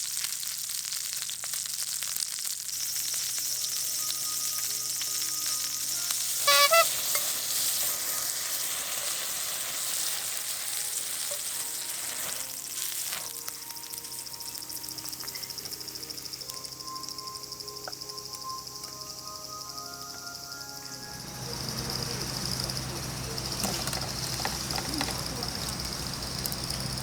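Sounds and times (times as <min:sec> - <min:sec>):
meat sizzling on a griddle: 0:00.0 - 0:20.1, 0:21.1 - 0:27.0.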